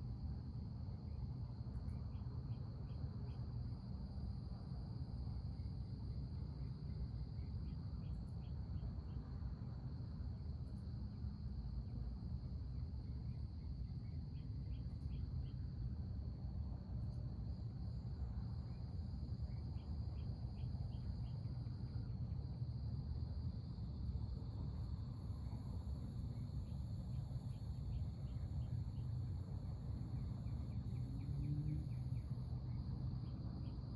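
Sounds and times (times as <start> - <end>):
high-pitched insect chorus: 0.1 - 33.9.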